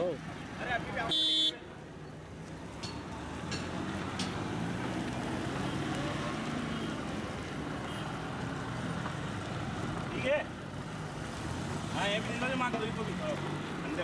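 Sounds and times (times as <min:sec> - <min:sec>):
vans and cars driving past: 0:00.0 - 0:14.0.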